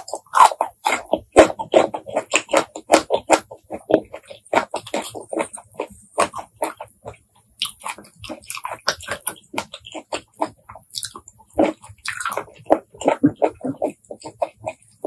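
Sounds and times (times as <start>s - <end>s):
wet chewing and lip smacking: 0.0s - 15.0s.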